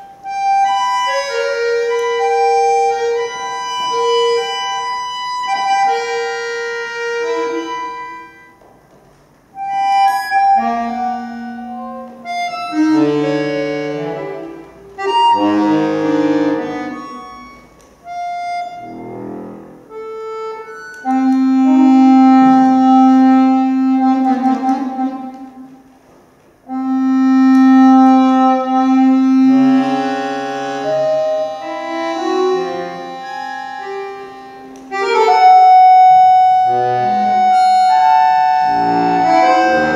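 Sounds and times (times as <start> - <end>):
solo accordion playing: 0.0 - 25.9, 26.6 - 39.9.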